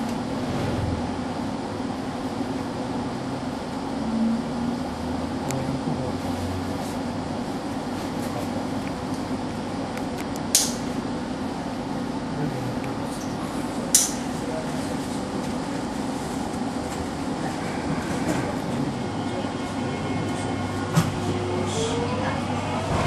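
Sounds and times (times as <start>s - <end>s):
streetcar running hum: 0.0s - 23.0s.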